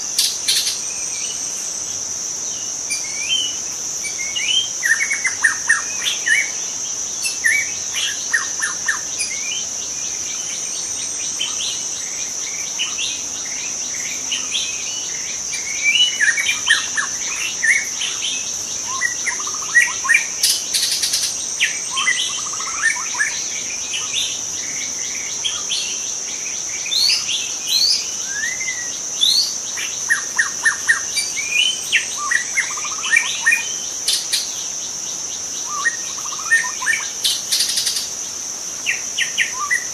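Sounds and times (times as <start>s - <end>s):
high-pitched insect drone: 0.0s - 39.9s
bird singing whistles and trills: 2.5s - 38.2s, 38.8s - 39.9s.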